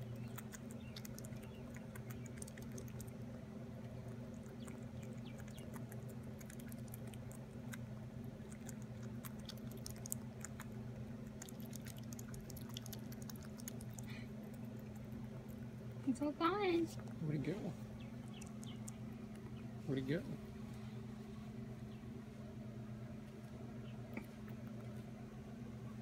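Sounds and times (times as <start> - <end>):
low hum: 0.0 - 26.0
squirrel chewing fruit: 0.0 - 26.0.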